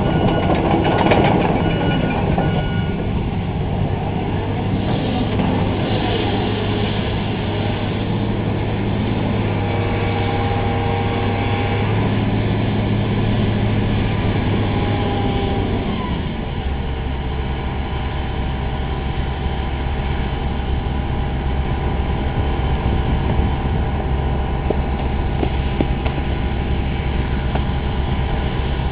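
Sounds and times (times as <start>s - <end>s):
excavator diesel engine running: 0.0s - 28.9s
hydraulic whine: 0.0s - 28.9s.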